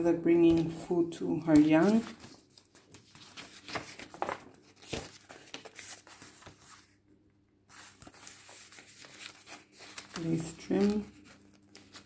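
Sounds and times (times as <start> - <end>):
paper pages rustling: 0.4 - 7.0, 7.7 - 12.0.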